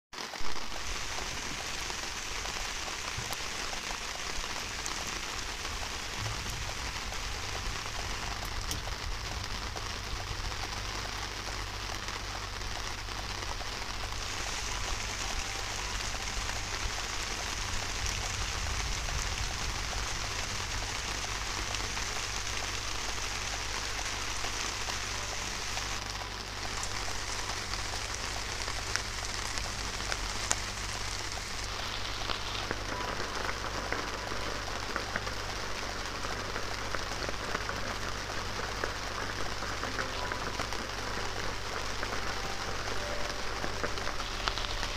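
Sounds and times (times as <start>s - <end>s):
steady rain falling: 0.1s - 44.9s
sharp ticks of raindrops: 0.2s - 44.9s.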